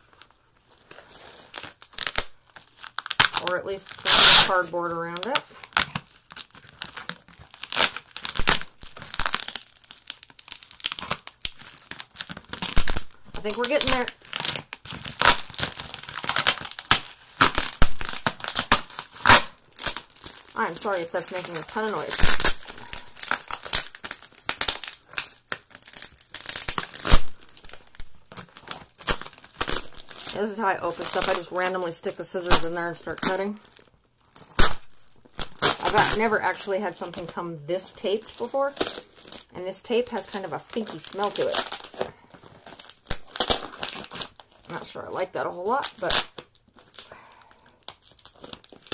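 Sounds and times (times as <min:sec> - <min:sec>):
hands ripping plastic tape: 0:00.0 - 0:48.9
plastic crinkling: 0:00.0 - 0:48.9.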